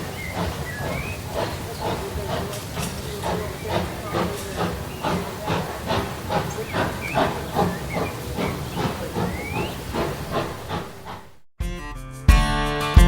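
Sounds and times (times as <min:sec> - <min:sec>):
steam hiss: 0:00.0 - 0:11.4
steam locomotive chuffing: 0:00.0 - 0:11.5.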